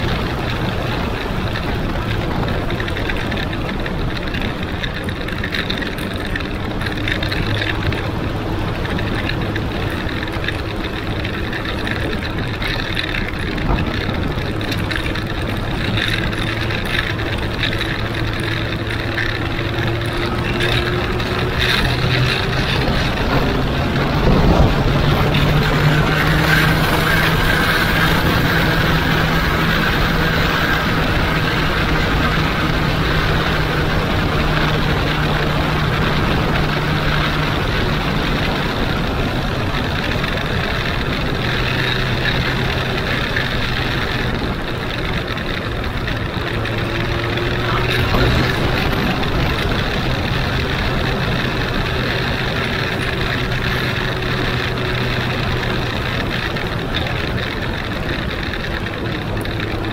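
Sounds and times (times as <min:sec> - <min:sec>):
motorcycle engine cruising: 0:00.0 - 0:59.9
road noise: 0:00.0 - 0:59.9
wind noise: 0:00.0 - 0:59.9.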